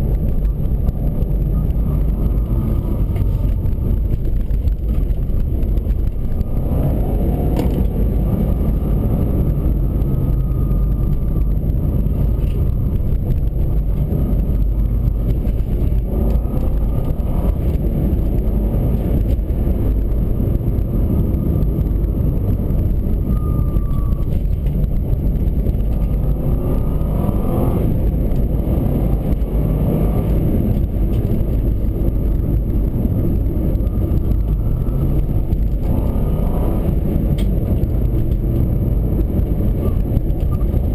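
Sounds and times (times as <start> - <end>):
car engine rumble: 0.0 - 40.9
road noise: 0.0 - 40.9.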